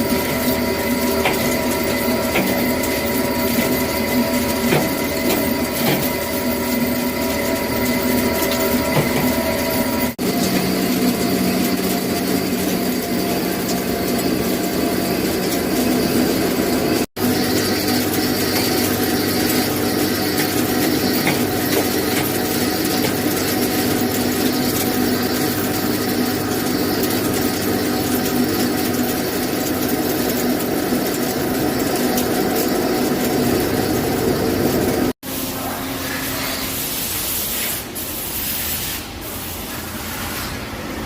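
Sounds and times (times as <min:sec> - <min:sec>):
lathe mechanical hum: 0:00.0 - 0:41.0.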